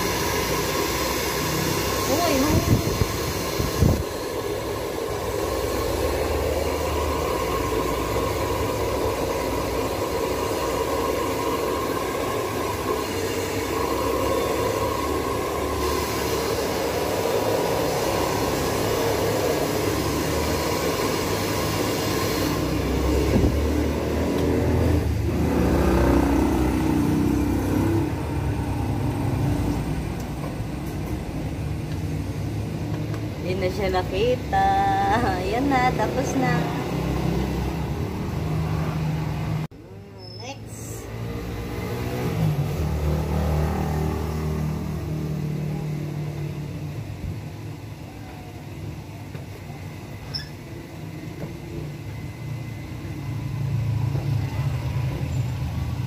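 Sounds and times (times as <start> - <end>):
hair dryer blowing: 0.0 - 39.7, 40.8 - 47.5.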